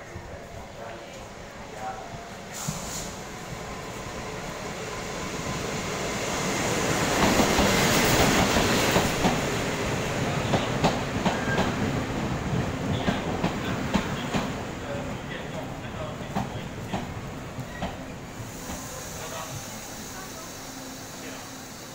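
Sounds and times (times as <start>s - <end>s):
train rumbling: 0.0s - 21.9s.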